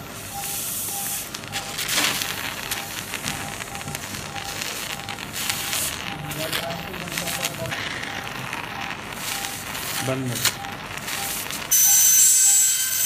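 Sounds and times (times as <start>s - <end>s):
monitor beeping: 0.0s - 13.0s
steady hiss: 0.0s - 13.0s
surgical instruments crackling: 0.4s - 12.0s.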